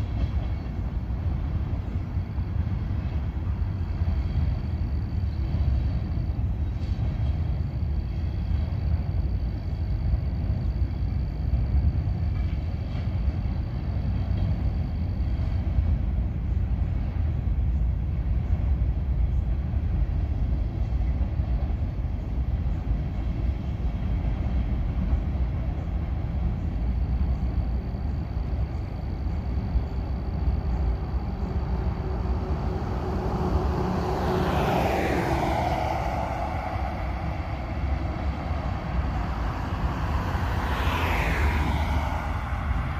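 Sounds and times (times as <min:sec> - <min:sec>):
vehicle engine rumble: 0:00.0 - 0:42.9.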